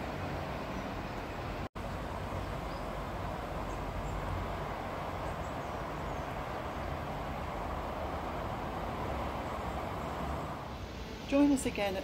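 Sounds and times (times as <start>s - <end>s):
distant city traffic hum: 0.0s - 12.0s.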